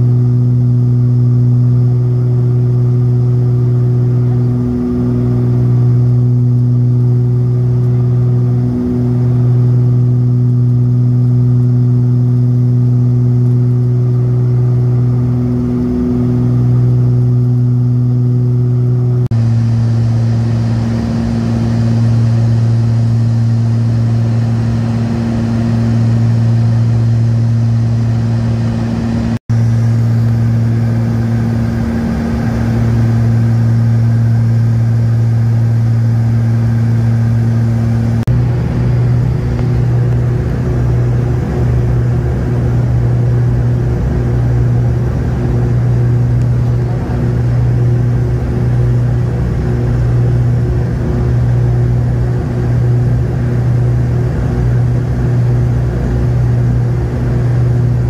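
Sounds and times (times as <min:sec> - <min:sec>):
propeller plane engine drone in cabin: 0:00.0 - 0:58.0.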